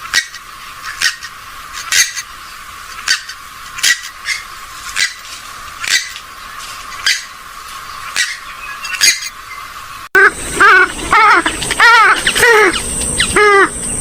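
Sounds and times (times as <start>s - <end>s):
marsh bird squawking calls: 0.0s - 14.0s
steady hiss: 0.0s - 14.0s.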